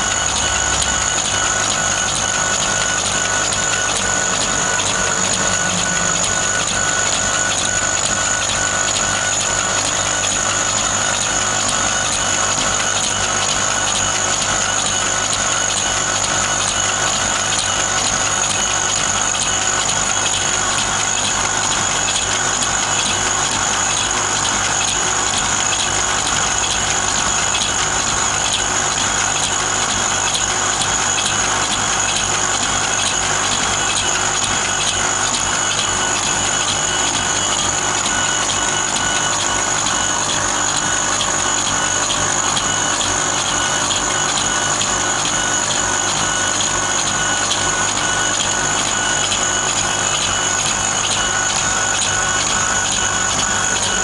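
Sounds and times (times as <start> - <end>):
engraving machine whine and ticking: 0.0 - 54.0.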